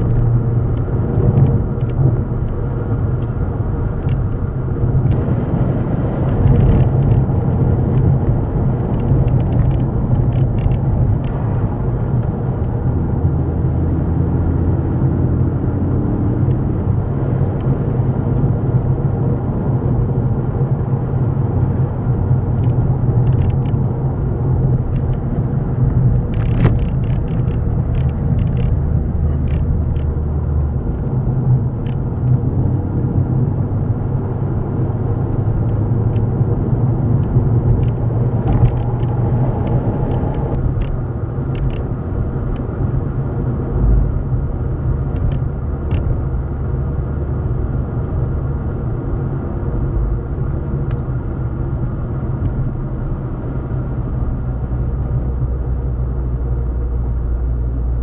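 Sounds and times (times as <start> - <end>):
motor vehicle engine rumble: 0.0 - 58.0.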